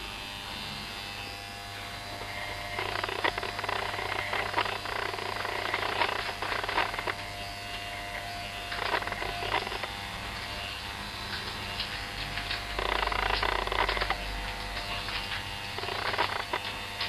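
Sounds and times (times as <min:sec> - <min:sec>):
clippers crackling through hair: 0:00.0 - 0:17.0
electric hair clippers buzzing: 0:00.0 - 0:17.0.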